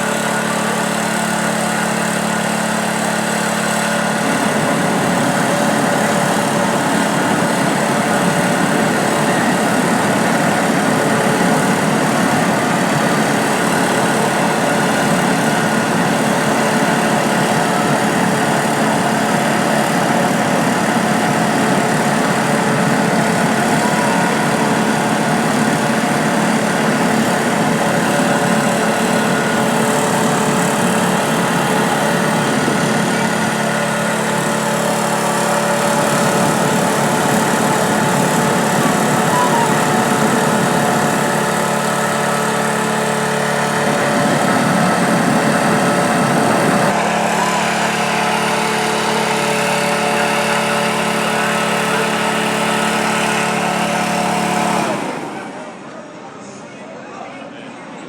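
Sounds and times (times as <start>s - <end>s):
small engine running: 0.0s - 55.9s.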